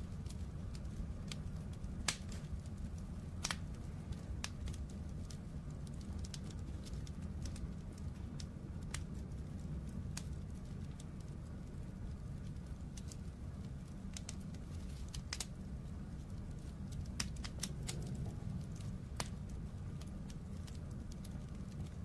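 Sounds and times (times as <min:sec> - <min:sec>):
fire crackling and popping: 0:00.0 - 0:22.0
fire rumbling in fireplace: 0:00.0 - 0:22.0.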